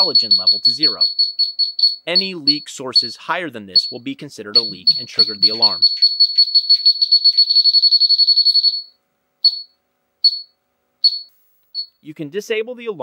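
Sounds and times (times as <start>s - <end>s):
slow single beeps: 0.0s - 3.1s, 4.6s - 12.0s
rapid high alarm beeps: 0.0s - 3.2s, 3.8s - 11.9s.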